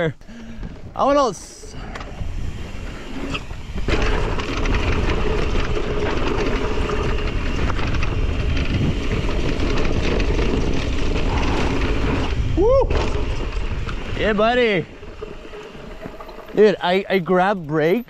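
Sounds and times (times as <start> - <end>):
bike rattling: 0.2 - 18.0
wind rumbling on microphone: 0.5 - 17.8
bike tyres rolling over dirt: 0.6 - 18.0.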